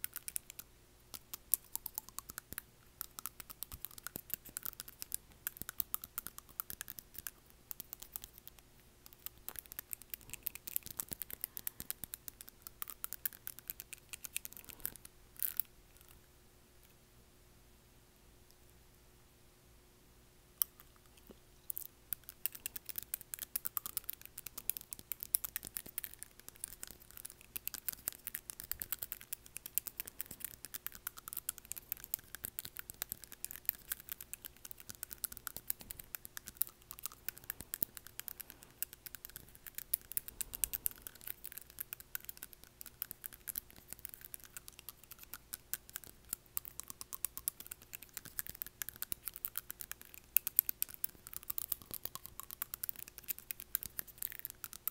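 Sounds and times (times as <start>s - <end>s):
nails clicking against teeth: 0.0s - 16.2s, 20.6s - 54.9s.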